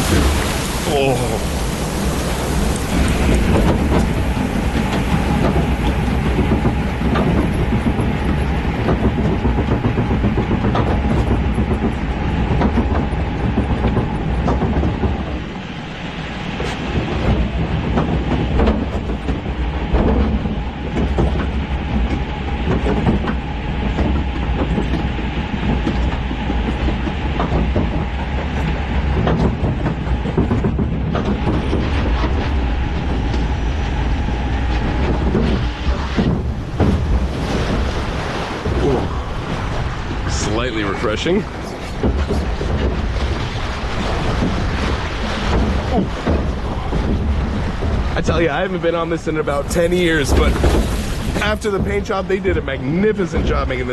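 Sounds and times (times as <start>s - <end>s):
mechanical hum: 0.0s - 53.9s
rumbling clatter of clanks: 0.0s - 53.9s.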